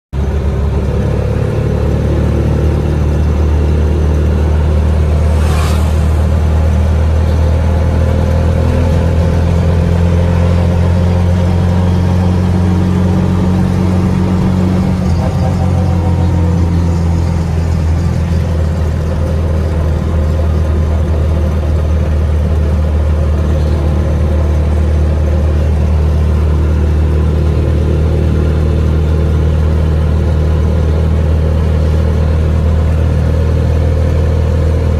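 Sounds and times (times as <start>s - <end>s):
motor tricycle engine running: 0.2s - 34.9s.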